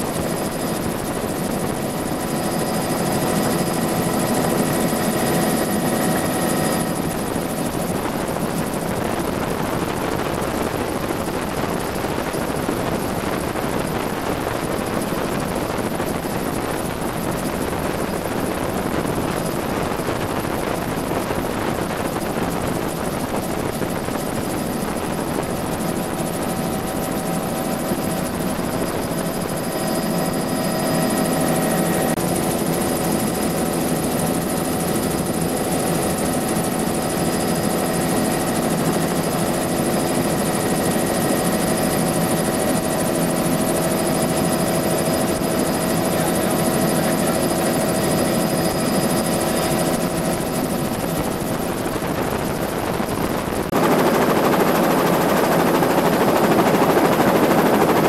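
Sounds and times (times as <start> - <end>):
helicopter rotor and turbine noise: 0.0 - 58.0.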